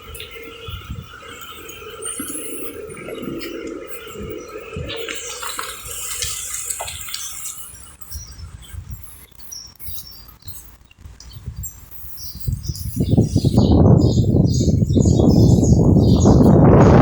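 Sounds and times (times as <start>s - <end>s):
small birds chirping: 0.0s - 16.9s
wind buffeting microphone: 0.0s - 17.0s.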